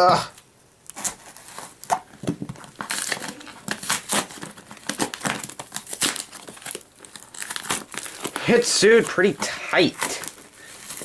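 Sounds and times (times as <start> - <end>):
packaging crinkling and tearing: 0.8 - 11.0.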